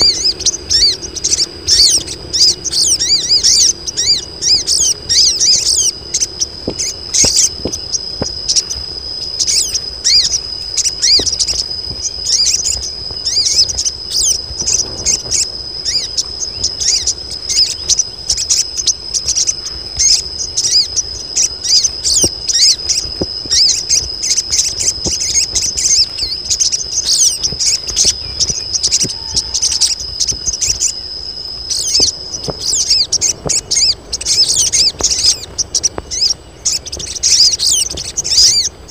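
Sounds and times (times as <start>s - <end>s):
birds chattering high chirps: 0.0s - 38.9s
steady high-pitched tone: 0.0s - 38.9s.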